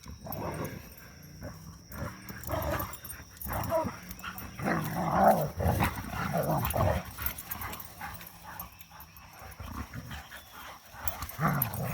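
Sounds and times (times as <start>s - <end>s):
dogs growling while play-fighting: 0.0s - 11.9s.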